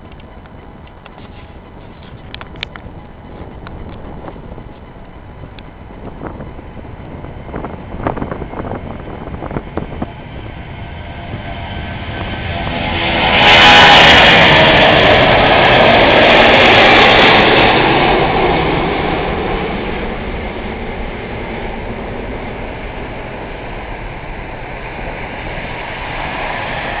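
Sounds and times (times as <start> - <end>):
jet airliner taking off: 0.0 - 27.0.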